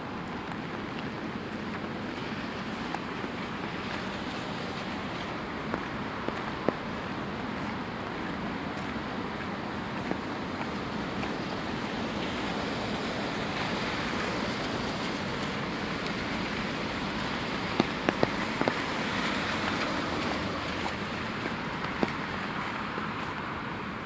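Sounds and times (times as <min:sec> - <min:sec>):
traffic on wet streets: 0:00.0 - 0:24.0.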